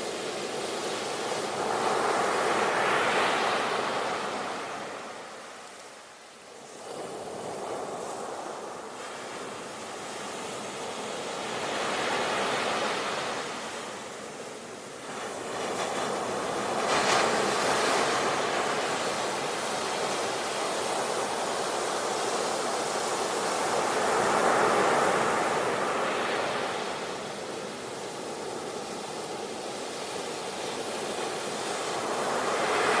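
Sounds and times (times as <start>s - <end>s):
ocean waves breaking on beach: 0.0s - 33.0s.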